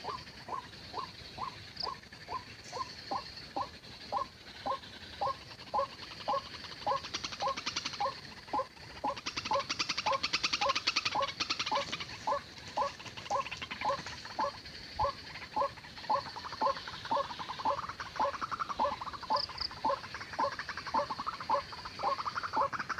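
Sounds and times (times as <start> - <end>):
waterhen calling: 0.0 - 22.9.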